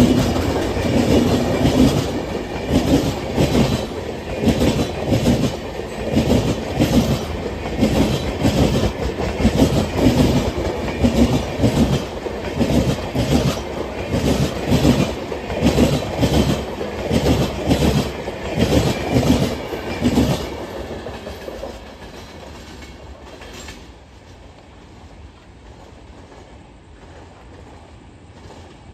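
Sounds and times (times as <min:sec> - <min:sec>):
train wheels clattering over rail joints: 0:00.0 - 0:24.6.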